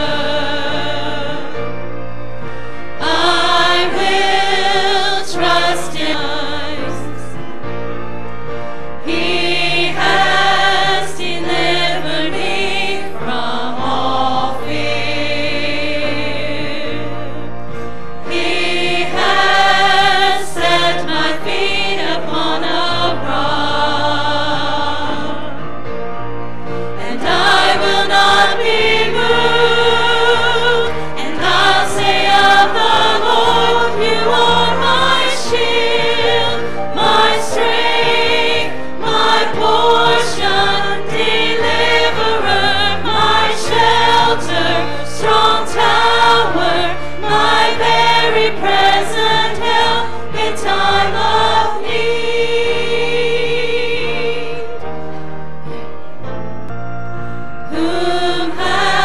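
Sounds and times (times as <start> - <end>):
choir singing a hymn: 0.0 - 56.6, 57.3 - 59.0
instrumental accompaniment with bass: 0.0 - 59.0.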